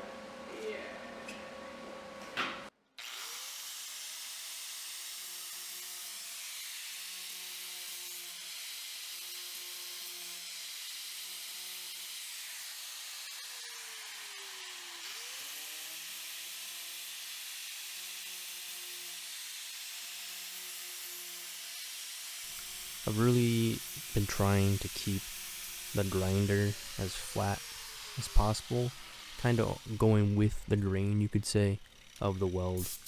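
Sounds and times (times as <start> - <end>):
angle grinder grinding metal: 3.0 - 33.0.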